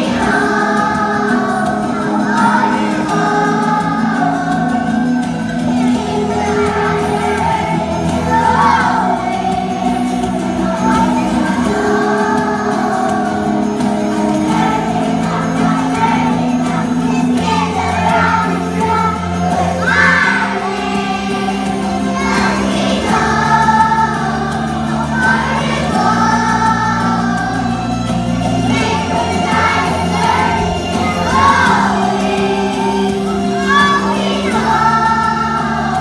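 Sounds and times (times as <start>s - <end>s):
song with singing and bass: 0.0s - 36.0s.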